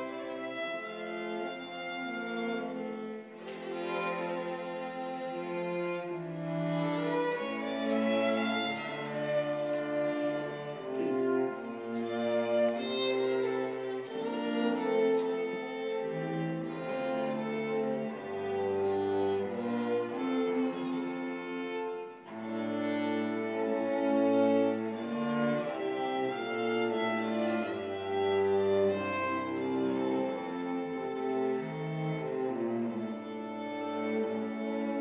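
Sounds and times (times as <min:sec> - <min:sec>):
string quartet playing: 0:00.0 - 0:35.0.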